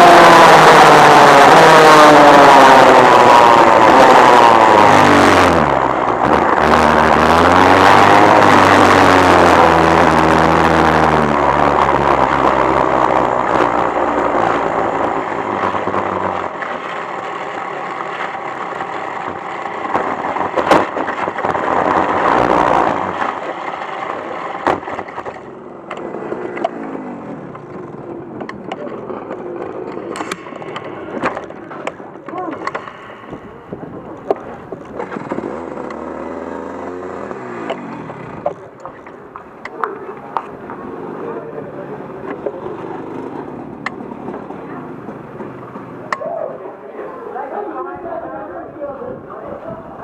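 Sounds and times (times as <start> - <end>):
kart rolling clicks and clatter: 0.0 - 33.1, 33.8 - 46.4
kart engine running at low revs: 0.0 - 48.2.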